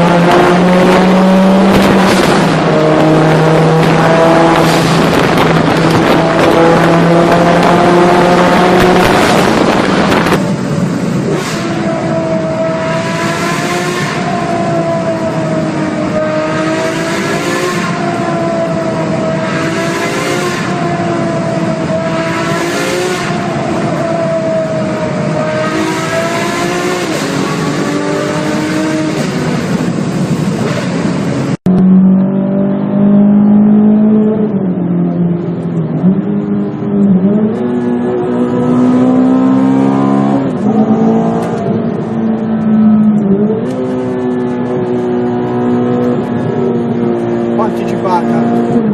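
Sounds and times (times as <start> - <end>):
engine revving with gear changes: 0.0 - 48.9.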